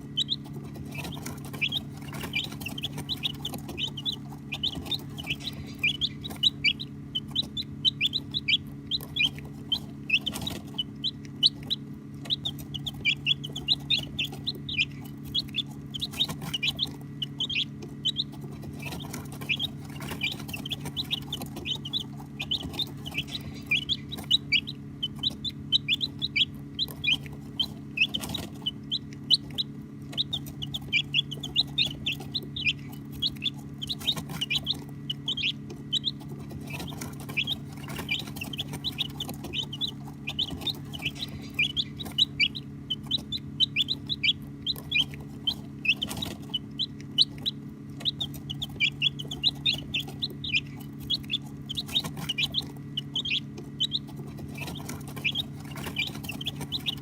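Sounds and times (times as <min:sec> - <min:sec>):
baby chicks peeping: 0:00.0 - 0:57.0
steady low hum: 0:00.0 - 0:57.0.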